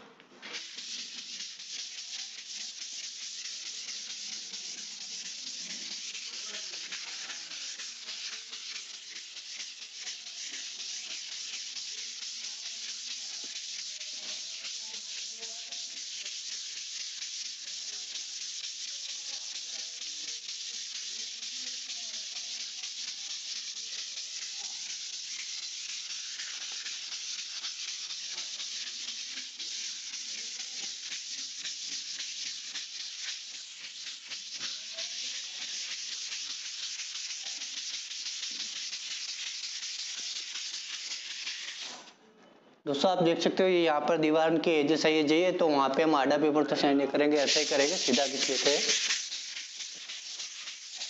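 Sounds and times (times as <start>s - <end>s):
sandpaper rasping on putty: 0.4s - 42.1s, 47.2s - 51.0s.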